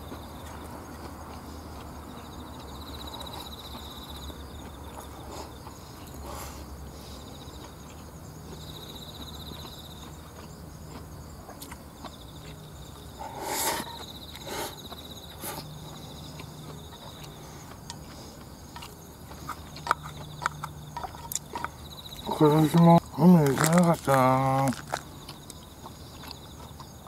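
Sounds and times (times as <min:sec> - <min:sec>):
chewing: 0:00.0 - 0:27.0
insects trilling: 0:00.0 - 0:27.0.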